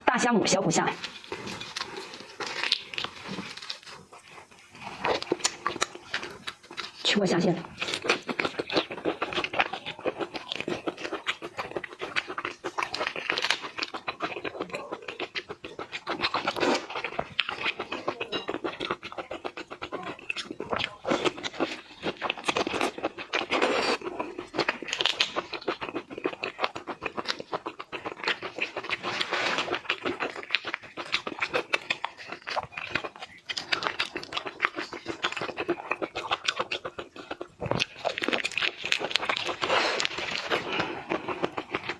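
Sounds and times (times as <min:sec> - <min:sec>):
wet chewing: 0:00.8 - 0:41.9
crunching shellfish: 0:01.0 - 0:41.9.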